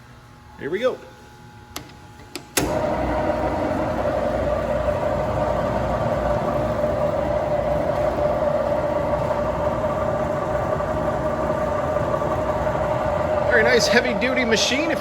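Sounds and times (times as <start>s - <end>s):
drill press motor humming: 1.7s - 15.0s.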